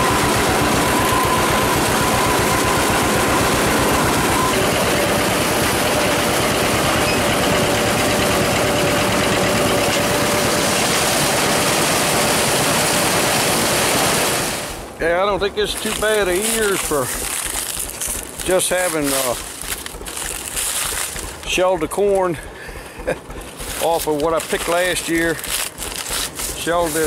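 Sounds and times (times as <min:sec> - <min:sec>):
faint machinery whine: 0:00.0 - 0:27.0
tractor engine pulsing: 0:00.0 - 0:27.0.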